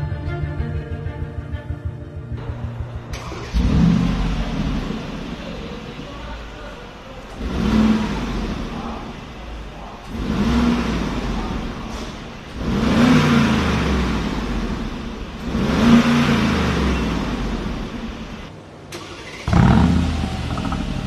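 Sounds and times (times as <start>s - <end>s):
car engine revving: 1.1s - 21.0s.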